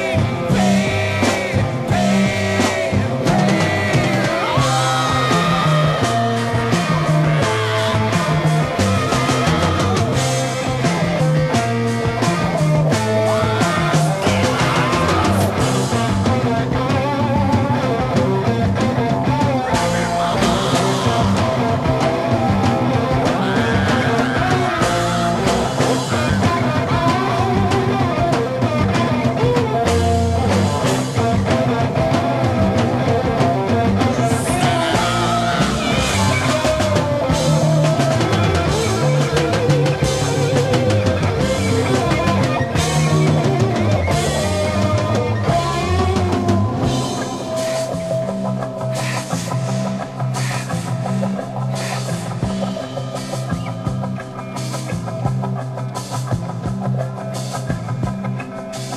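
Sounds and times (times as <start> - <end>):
psychedelic rock band playing: 0.0 - 58.9.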